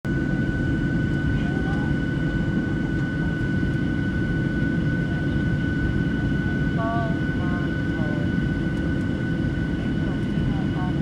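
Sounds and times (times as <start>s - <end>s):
jet engine low rumble: 0.0s - 11.0s.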